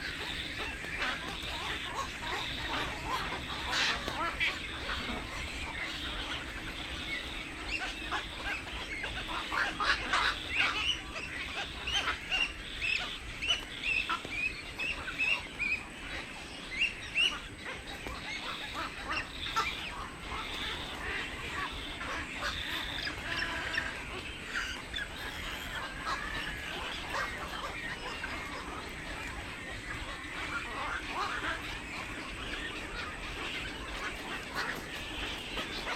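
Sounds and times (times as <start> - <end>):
birds chattering: 0.0 - 35.9.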